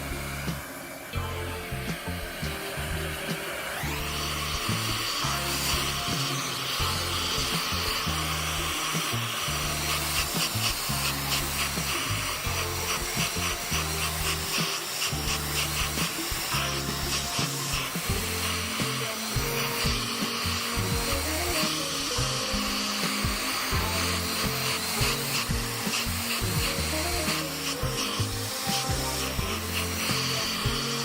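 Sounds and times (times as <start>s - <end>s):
background music with stepping bass: 0.0s - 31.0s.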